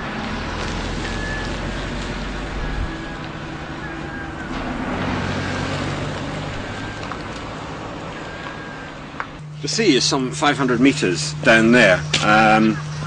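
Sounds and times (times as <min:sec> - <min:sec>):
outdoor noise: 0:00.0 - 0:13.0
vehicle engine running: 0:00.0 - 0:13.0.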